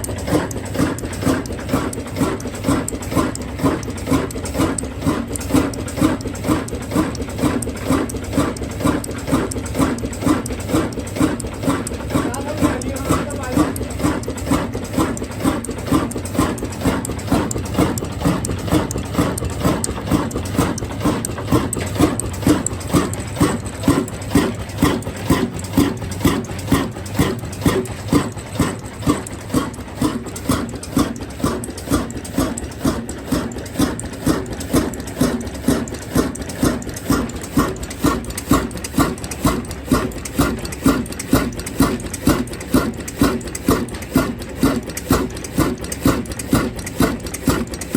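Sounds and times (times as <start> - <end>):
diesel engine chugging: 0.0 - 47.9.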